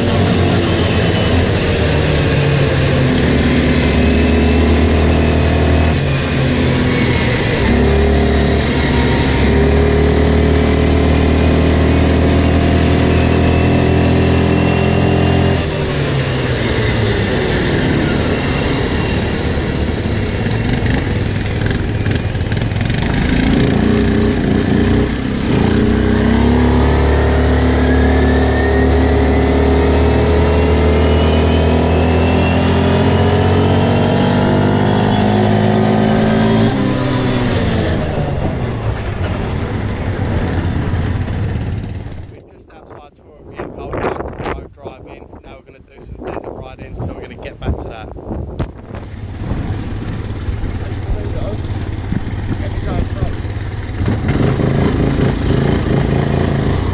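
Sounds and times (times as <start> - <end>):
quad bike engine revving: 0.0 - 48.0, 48.6 - 56.9.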